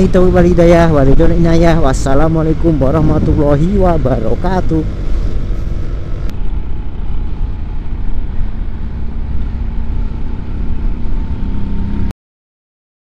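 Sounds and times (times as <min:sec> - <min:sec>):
motorbike engine and tyre noise: 0:00.0 - 0:12.1
wind rushing over microphone: 0:00.0 - 0:12.1.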